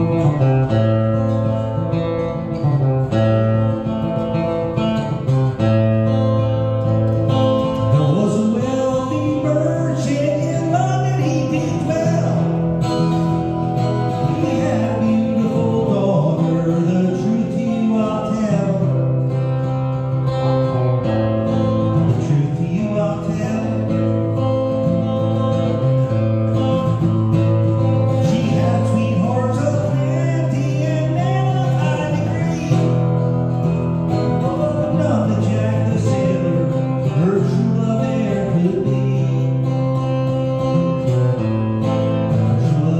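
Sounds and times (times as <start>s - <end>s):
strummed acoustic guitar: 0.0s - 42.9s
man singing: 7.2s - 42.9s.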